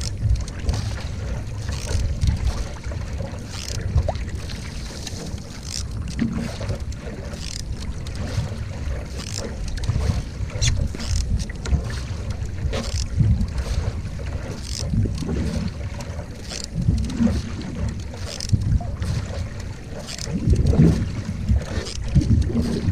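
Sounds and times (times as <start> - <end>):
paddle strokes splashing water: 0.0 - 22.9
wind rumble on microphone: 0.0 - 22.9.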